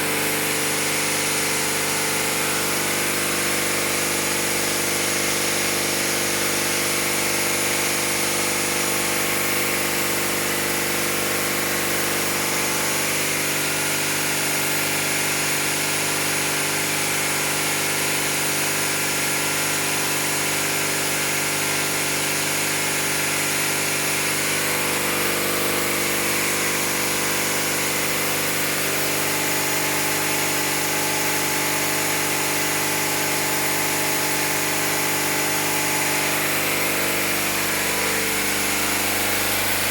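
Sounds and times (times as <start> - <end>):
pump engine running steadily: 0.0 - 39.9.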